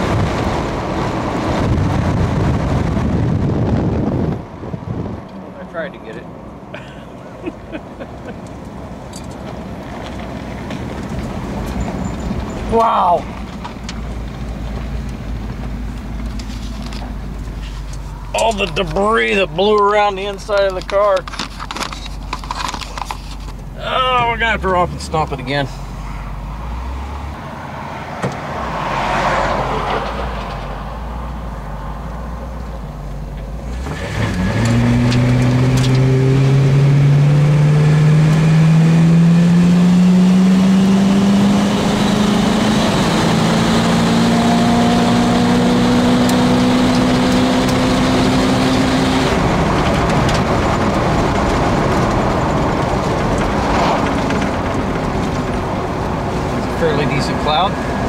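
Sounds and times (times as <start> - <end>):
car engine rumbling and revving: 0.0 - 58.0.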